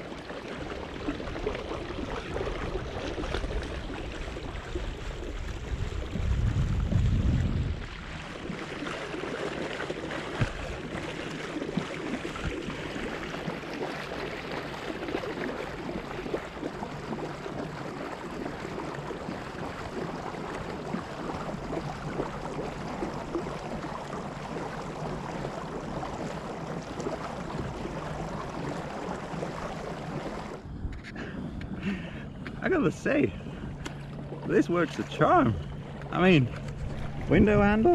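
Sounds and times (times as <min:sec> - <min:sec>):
water splashing along kayak hull: 0:00.0 - 0:37.9.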